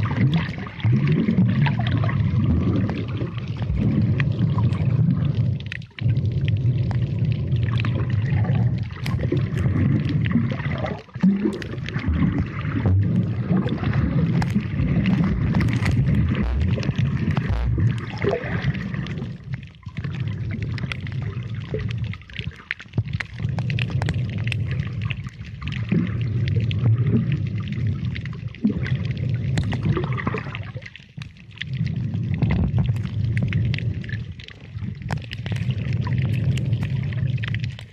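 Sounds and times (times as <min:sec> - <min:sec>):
muffled underwater rumble: 0:00.0 - 0:37.9
small underwater clicks: 0:00.0 - 0:37.9
water gurgling: 0:00.0 - 0:37.9.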